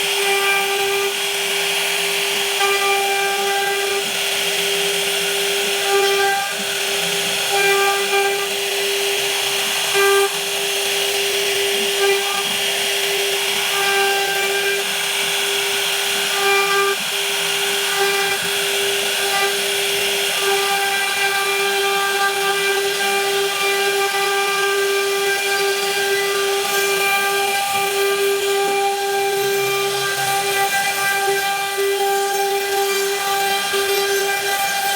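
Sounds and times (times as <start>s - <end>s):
cutting noise hiss: 0.0s - 34.9s
spindle motor whining: 0.0s - 34.9s.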